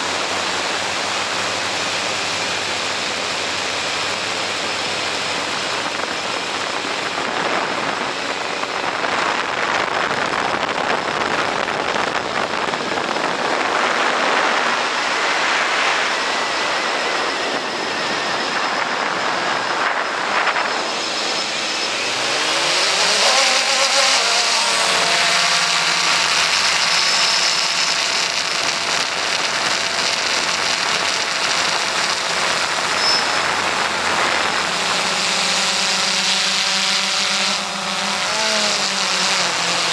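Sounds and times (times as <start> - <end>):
drone motors whining: 0.0 - 39.9
wind and rotor wash: 0.0 - 39.9.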